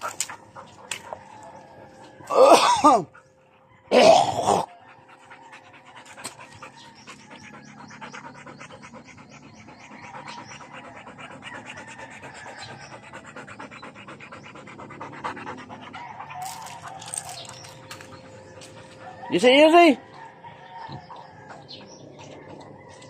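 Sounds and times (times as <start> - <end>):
dog panting rapidly: 0.0 - 1.8, 4.6 - 23.0.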